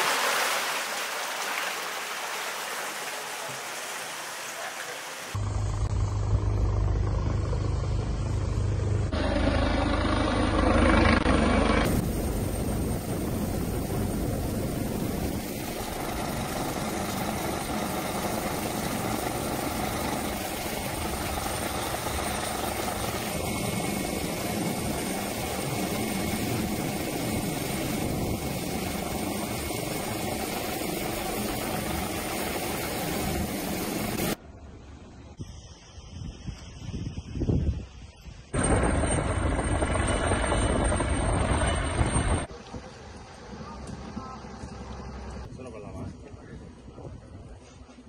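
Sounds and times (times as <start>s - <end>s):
helicopter rotor and turbine engine: 5.3s - 35.0s, 35.6s - 47.6s.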